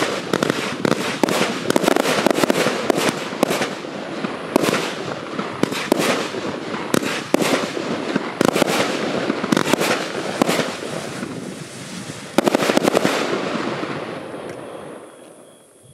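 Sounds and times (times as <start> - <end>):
fireworks crackle: 0.0 - 15.5
fireworks reports: 0.0 - 15.9.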